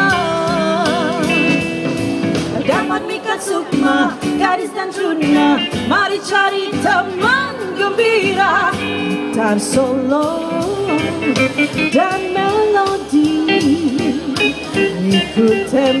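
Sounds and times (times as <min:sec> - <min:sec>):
women singing pop song: 0:00.0 - 0:01.6, 0:02.6 - 0:16.0
keyboard backing: 0:00.0 - 0:16.0.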